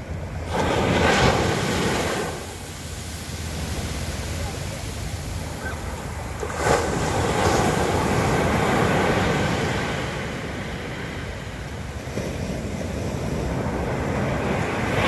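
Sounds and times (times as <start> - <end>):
ocean wave breaking: 0.0 - 15.0.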